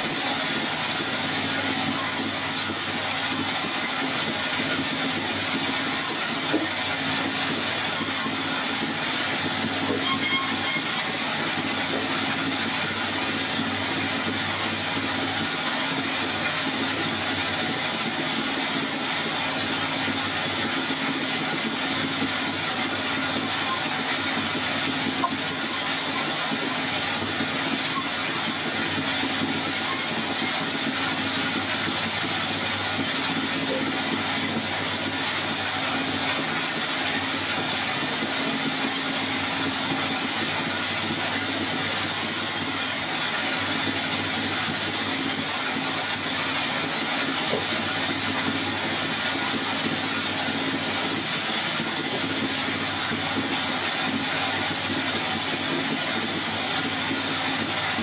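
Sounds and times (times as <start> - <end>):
band saw cutting logs: 0.0 - 58.0.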